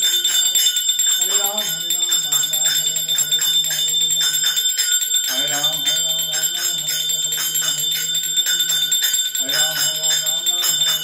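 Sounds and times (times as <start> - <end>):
hand bell ringing rapidly: 0.0 - 11.0
person chanting: 0.0 - 11.0.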